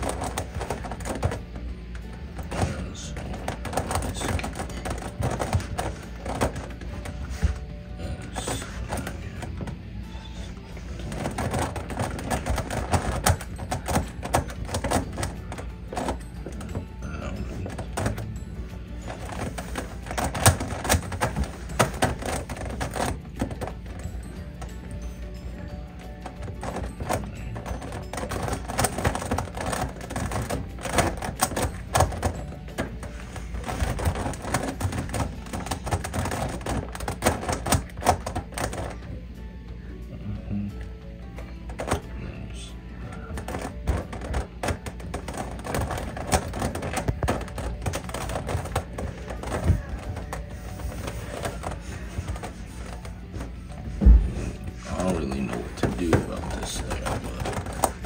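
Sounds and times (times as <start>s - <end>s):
plastic puzzle layers clicking: 0.0s - 39.4s, 41.4s - 58.0s.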